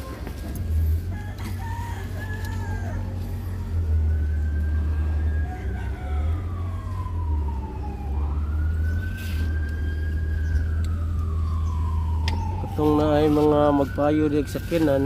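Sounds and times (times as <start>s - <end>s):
wailing siren: 0.0s - 15.0s.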